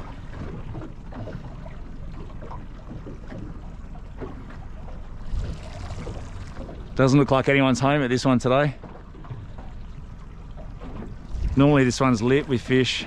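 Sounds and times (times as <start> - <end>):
boat motor idling: 0.0 - 13.0
water lapping against hull: 0.0 - 13.0.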